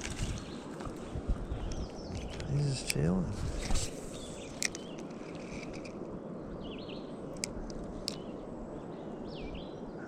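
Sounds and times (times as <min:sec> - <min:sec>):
birds chirping: 0:00.2 - 0:10.0.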